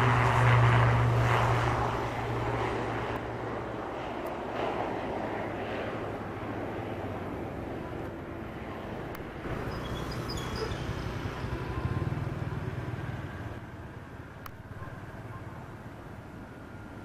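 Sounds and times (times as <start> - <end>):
propeller aircraft droning: 0.0 - 17.0.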